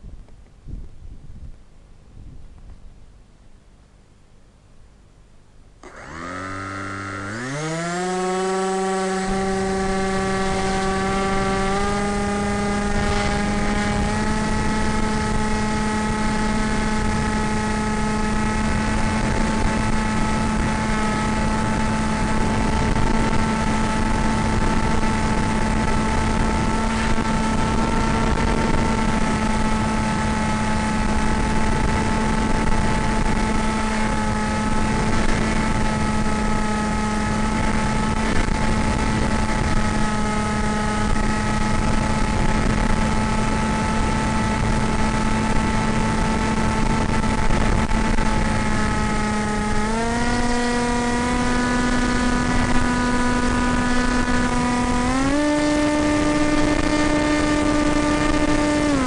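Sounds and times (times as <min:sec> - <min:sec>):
rushing wind: 0:00.0 - 0:02.8, 0:05.8 - 0:59.0
electric motor and propeller droning: 0:05.8 - 0:59.0.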